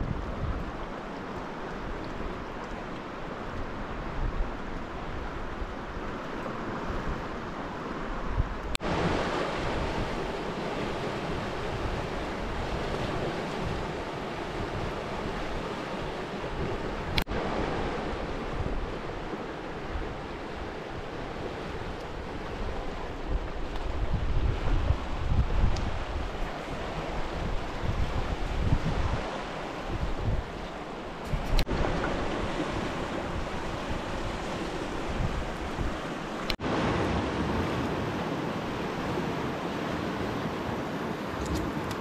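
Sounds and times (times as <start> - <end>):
wind on microphone: 0.0 - 1.0, 3.4 - 42.0.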